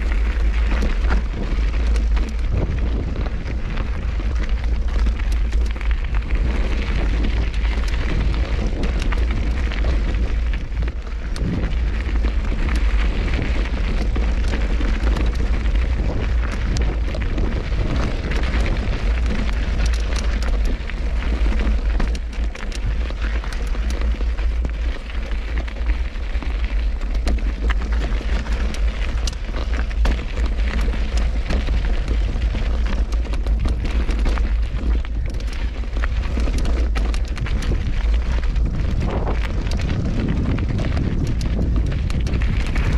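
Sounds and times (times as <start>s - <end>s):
tyres crunching over stones: 0.0s - 42.9s
wind buffeting microphone: 0.0s - 42.9s.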